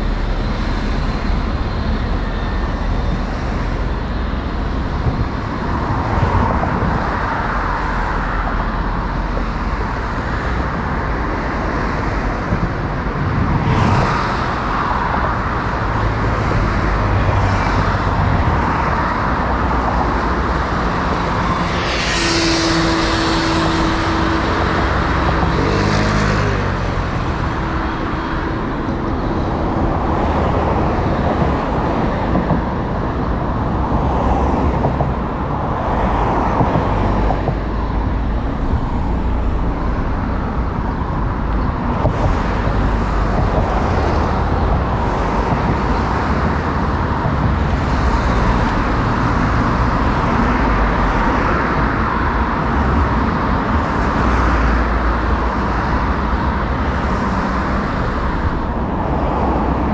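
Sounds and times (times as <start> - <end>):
cars passing by: 0.0 - 59.9
vehicle engine hum: 0.0 - 59.9.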